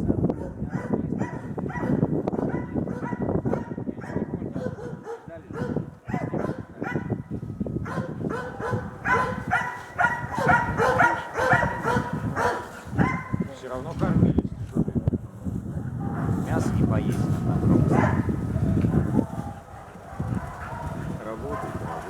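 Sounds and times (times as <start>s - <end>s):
hunting dogs baying: 0.3s - 13.5s, 15.7s - 16.5s, 17.4s - 22.0s.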